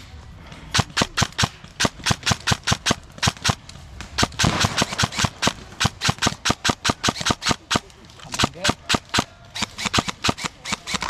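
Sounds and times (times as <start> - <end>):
airsoft gun firing: 0.7 - 11.0.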